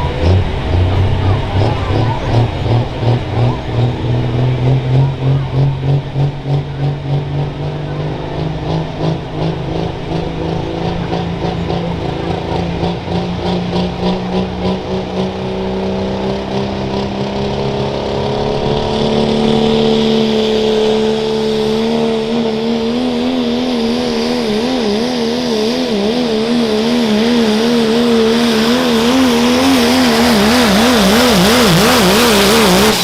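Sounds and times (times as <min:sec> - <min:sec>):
diesel truck engine revving: 0:00.0 - 0:33.0.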